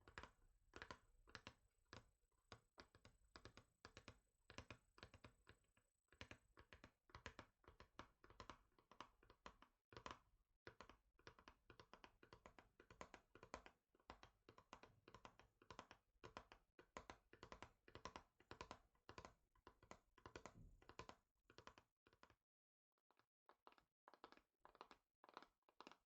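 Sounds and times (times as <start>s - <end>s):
rapid fingertip tapping: 0.0s - 22.3s, 23.6s - 26.0s.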